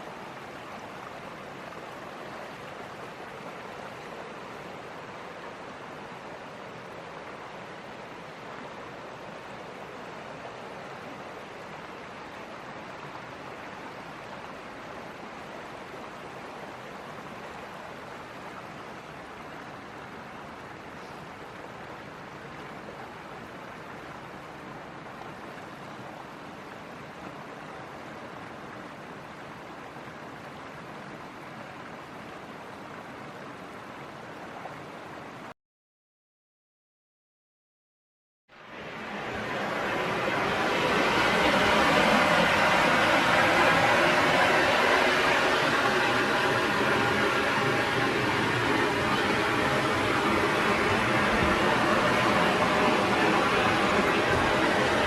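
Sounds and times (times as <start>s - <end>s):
creek water rushing over rocks: 0.0s - 35.5s, 38.5s - 55.0s.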